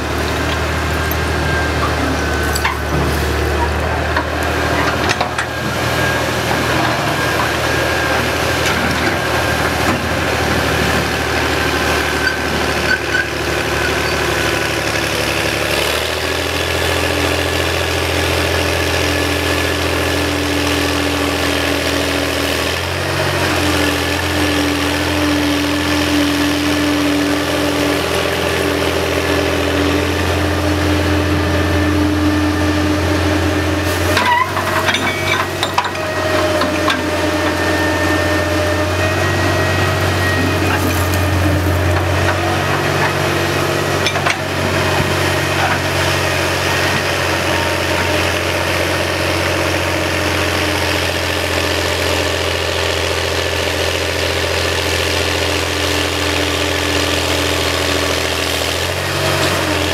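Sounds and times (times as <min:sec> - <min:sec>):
dragline engine under load: 0:00.0 - 0:59.9.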